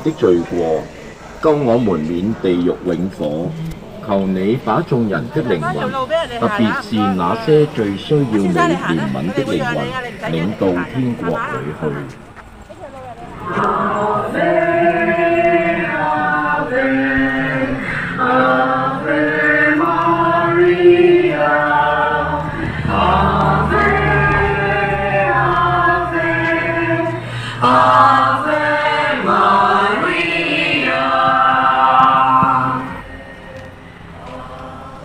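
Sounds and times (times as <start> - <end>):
group singing a hymn: 0.0 - 12.1, 13.3 - 35.0.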